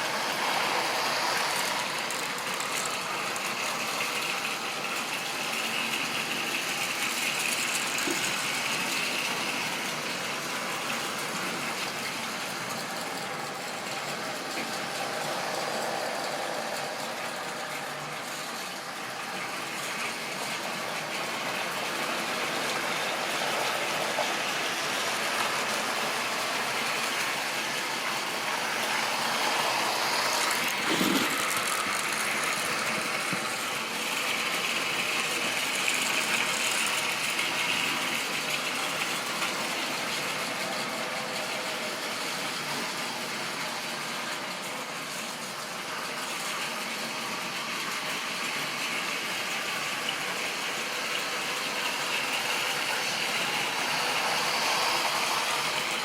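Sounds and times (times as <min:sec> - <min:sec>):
model train motor whirring: 0:00.0 - 0:56.0
wheels running over rails: 0:00.0 - 0:56.0.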